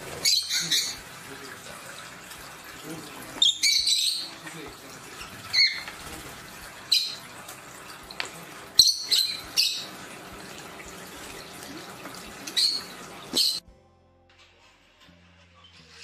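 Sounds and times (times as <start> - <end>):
birds chirping: 0.0 - 13.6
fountain water trickling and splashing: 0.0 - 13.6.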